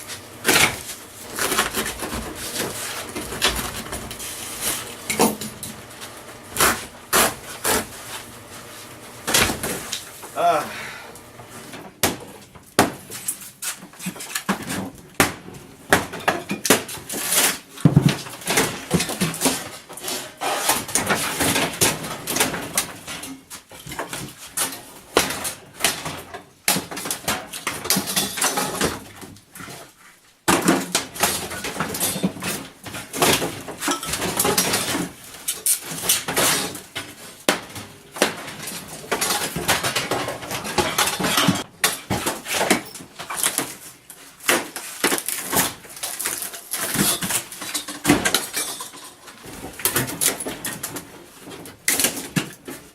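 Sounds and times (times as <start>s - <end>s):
tools knocking and scraping floor: 0.0s - 10.4s, 11.4s - 29.9s, 30.5s - 52.9s.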